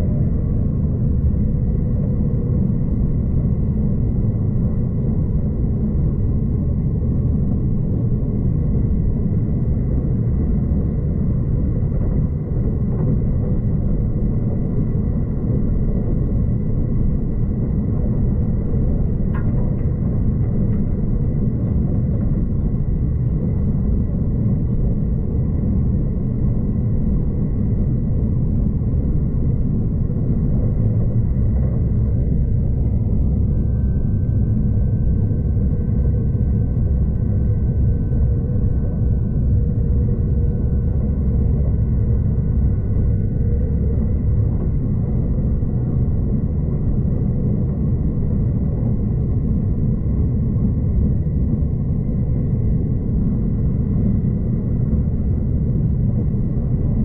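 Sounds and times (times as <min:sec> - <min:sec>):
faint high whine: 0:00.0 - 0:57.0.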